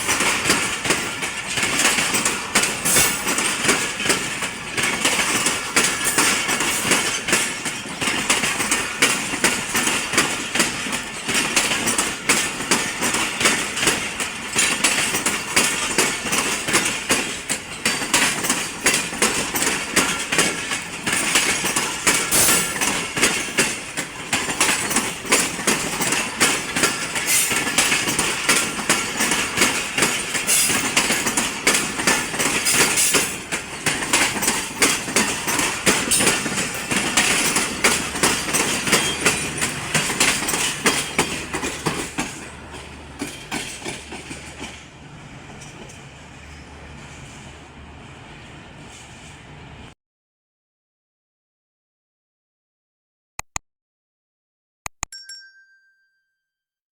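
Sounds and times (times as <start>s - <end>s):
train wheels clattering over rails: 0.0s - 49.4s.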